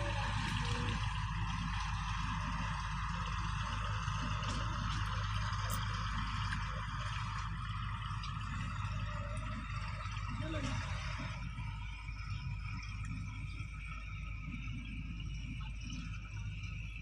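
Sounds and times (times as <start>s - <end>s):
low rumble: 0.0s - 17.0s
water sloshing and splashing: 0.0s - 17.0s.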